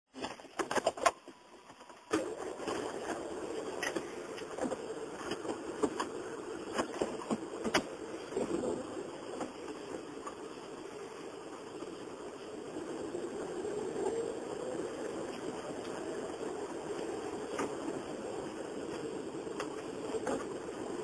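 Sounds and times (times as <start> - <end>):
car cabin road and engine noise: 2.0 - 21.0.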